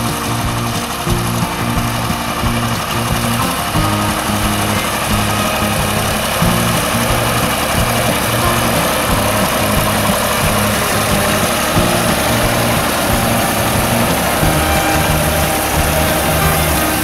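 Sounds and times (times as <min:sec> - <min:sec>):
background music with bass line: 0:00.0 - 0:17.0
tractor engine running: 0:00.0 - 0:17.0.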